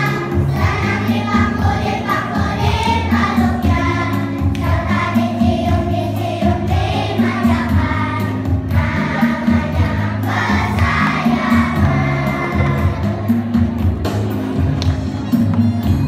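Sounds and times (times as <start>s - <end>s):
children singing in chorus: 0.0s - 13.6s
accompanying music with bass: 0.0s - 16.0s.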